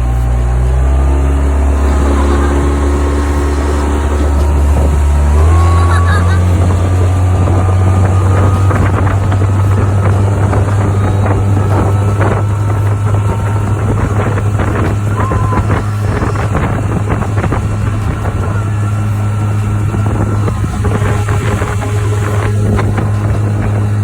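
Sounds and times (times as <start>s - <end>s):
outboard motor droning: 0.0s - 24.0s
wind buffeting microphone: 0.0s - 24.0s.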